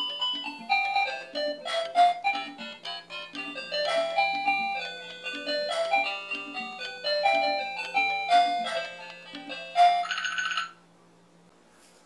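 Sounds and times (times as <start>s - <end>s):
toy cash register electronic melody: 0.0s - 10.8s.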